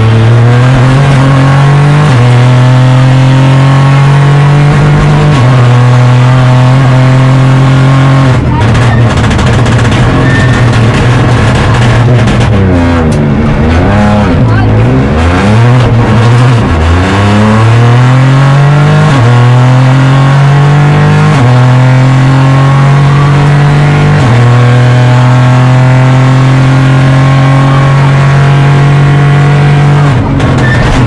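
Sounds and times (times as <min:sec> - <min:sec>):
turbo engine at full throttle: 0:00.0 - 0:31.0.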